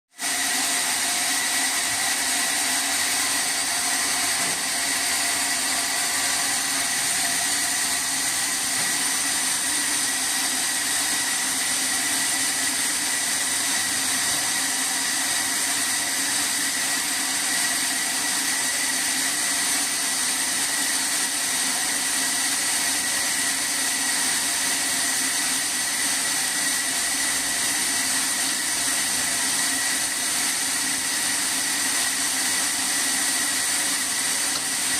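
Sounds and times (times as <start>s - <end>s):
sawmill saw whining: 0.1s - 34.9s.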